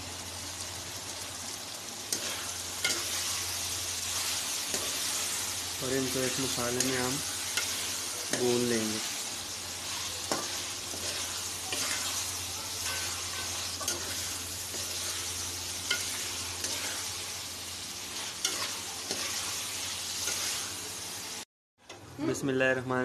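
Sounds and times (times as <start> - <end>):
vegetables sizzling in pot: 0.0 - 23.0.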